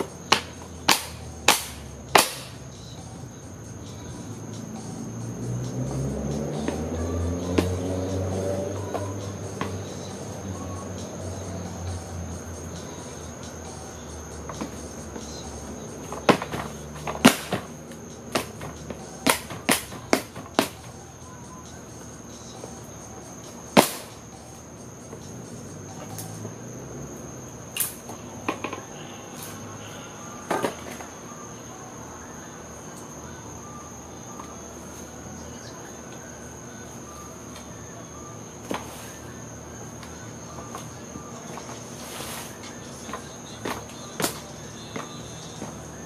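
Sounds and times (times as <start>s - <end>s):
crickets trilling: 0.0s - 46.0s.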